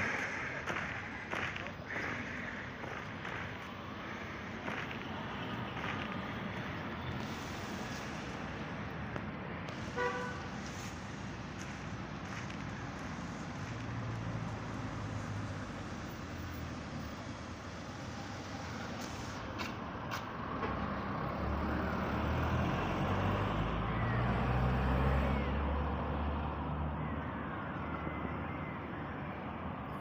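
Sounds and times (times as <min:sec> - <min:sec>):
cars driving past: 0:00.0 - 0:28.2.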